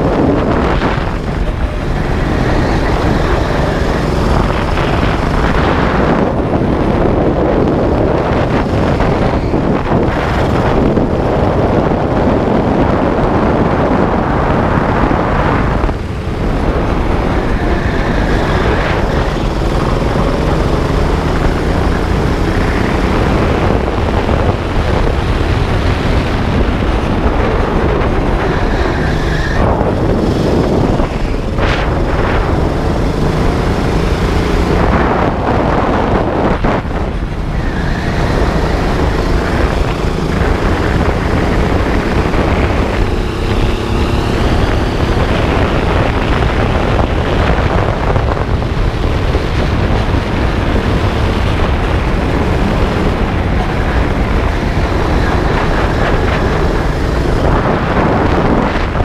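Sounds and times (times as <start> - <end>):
go-kart engine running hard: 0.0 - 59.0
wind rush over camera: 0.0 - 59.0.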